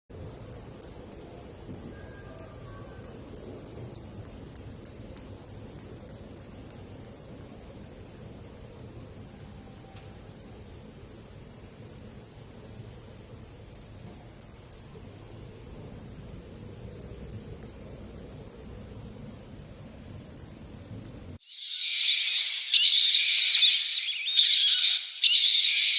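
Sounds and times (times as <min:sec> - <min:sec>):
high-pitched insect trill: 0:00.2 - 0:25.9.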